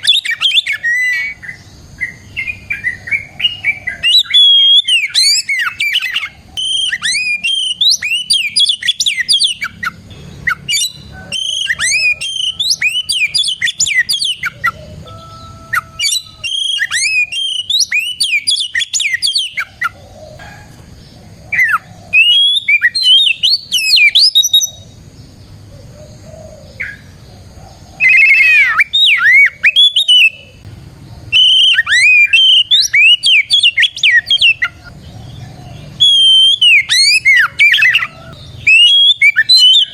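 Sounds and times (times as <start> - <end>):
songbird whistling and chattering: 0.0 - 39.9.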